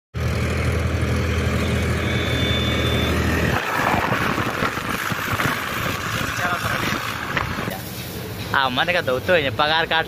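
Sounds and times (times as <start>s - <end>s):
diesel engine running: 0.2s - 10.0s.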